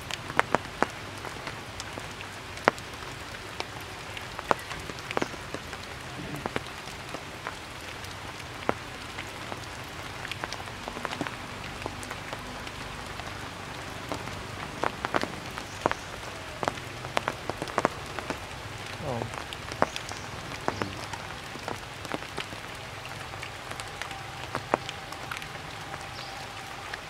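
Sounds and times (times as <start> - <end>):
rain hissing on leaves: 0.0 - 27.0
raindrops ticking: 0.0 - 27.0.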